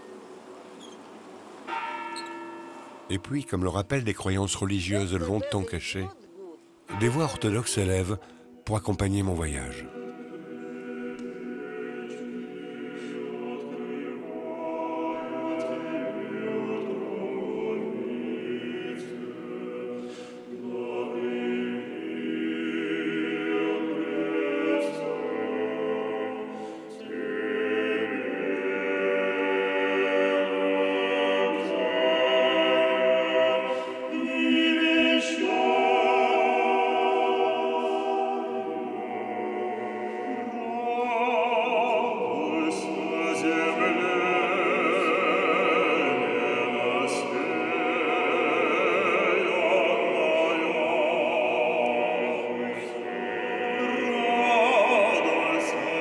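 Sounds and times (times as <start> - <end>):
male choir singing chant in harmony: 3.1 - 6.1, 6.9 - 56.0.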